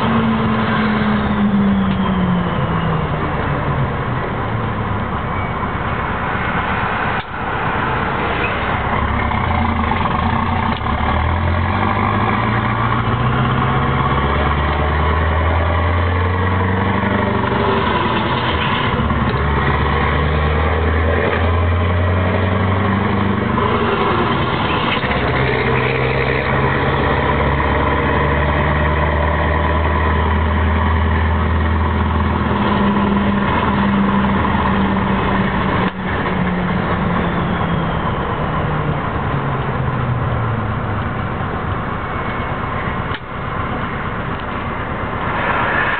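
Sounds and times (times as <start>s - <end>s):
truck diesel engine from cab: 0.0s - 45.9s.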